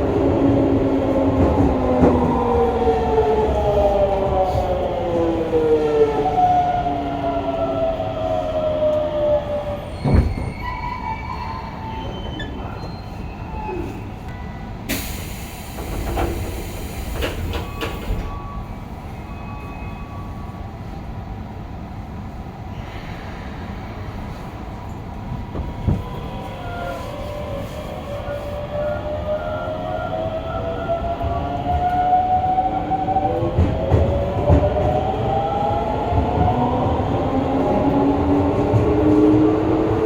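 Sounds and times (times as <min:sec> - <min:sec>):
train rolling rumble: 0:00.0 - 0:40.0.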